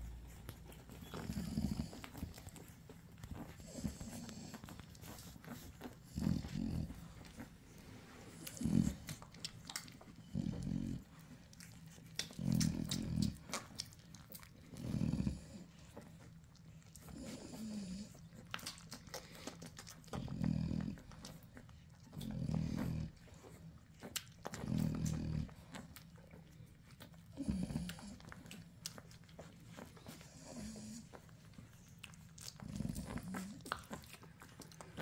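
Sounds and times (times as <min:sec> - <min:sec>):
puppies grunting breaths: 0:00.0 - 0:35.0
puppies suckling wet smacking: 0:00.0 - 0:35.0
puppy whining: 0:00.0 - 0:35.0.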